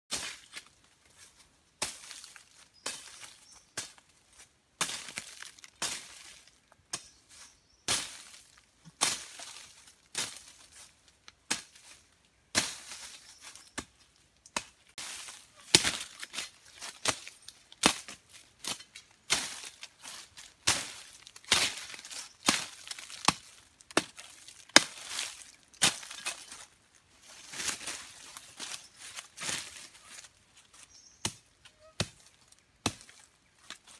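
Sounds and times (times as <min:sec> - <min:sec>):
leaves rustling: 0:00.1 - 0:33.9.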